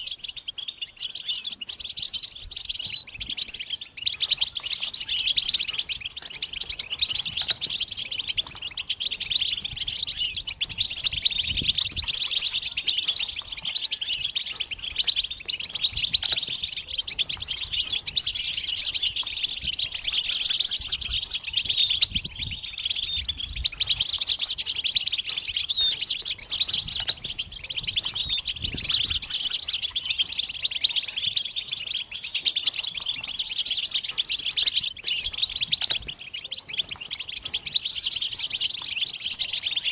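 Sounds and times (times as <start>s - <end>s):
goldfinches chattering and singing: 0.0s - 39.9s.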